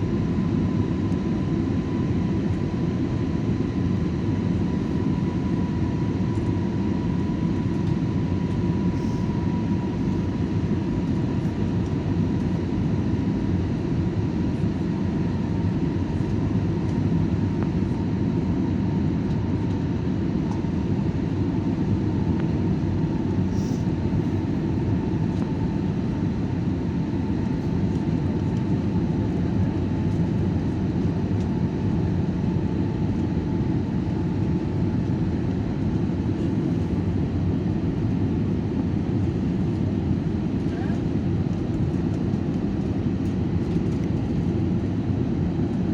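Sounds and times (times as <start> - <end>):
airliner engines and airflow in cabin: 0.0 - 45.9.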